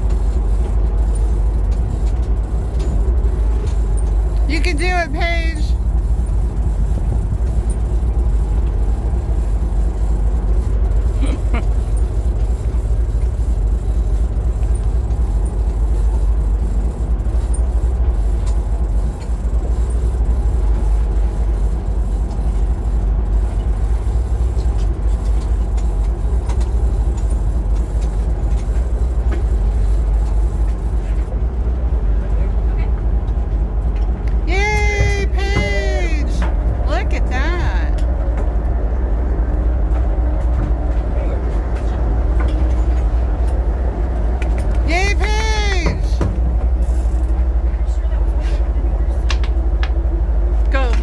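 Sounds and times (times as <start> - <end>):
boat engine rumbling: 0.0 - 51.0.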